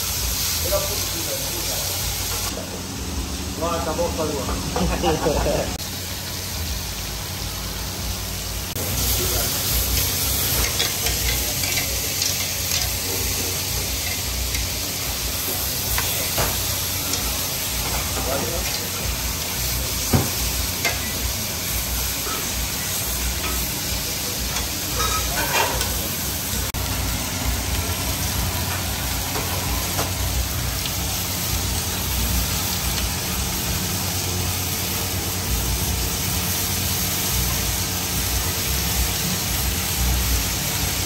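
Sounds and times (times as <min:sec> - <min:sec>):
meat sizzling in a grill pan: 0:00.0 - 0:41.0.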